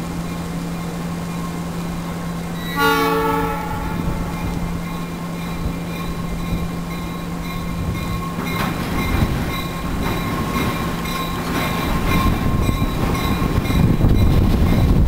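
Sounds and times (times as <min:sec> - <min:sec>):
diesel locomotive engine rumble: 0:00.0 - 0:15.0
wheels clanking on rails: 0:00.0 - 0:15.0.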